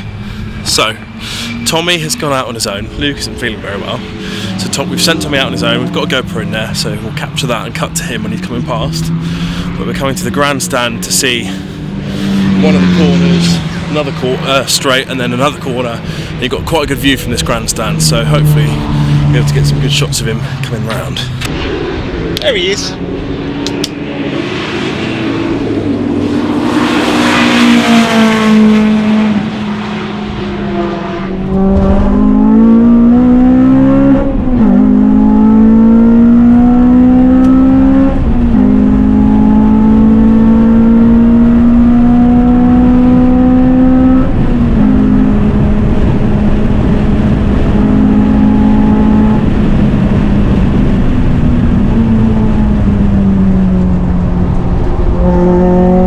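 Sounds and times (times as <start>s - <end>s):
engine accelerating through gears: 0.0s - 21.5s, 23.0s - 56.0s
car passing at speed: 0.0s - 56.0s.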